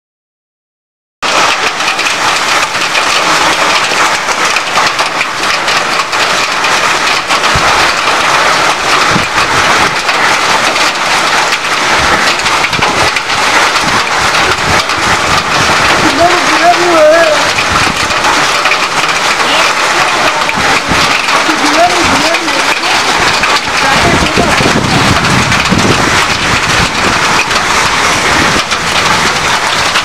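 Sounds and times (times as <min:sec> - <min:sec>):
heavy rain: 0:01.2 - 0:30.0.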